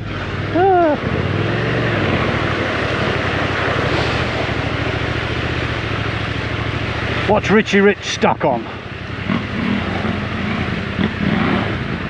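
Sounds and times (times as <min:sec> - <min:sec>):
motorcycle engine running: 0:00.0 - 0:12.0
steady rushing noise: 0:00.0 - 0:12.0.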